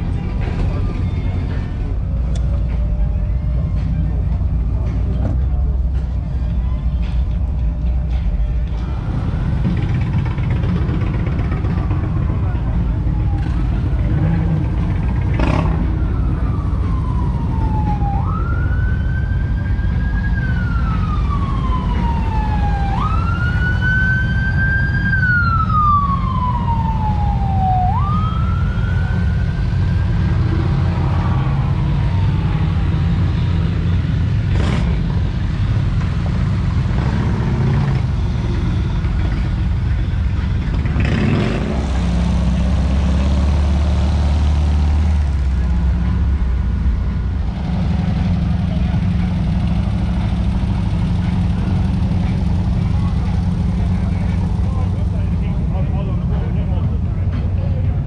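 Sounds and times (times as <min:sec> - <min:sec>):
emergency vehicle siren wailing: 0:08.8 - 0:55.7.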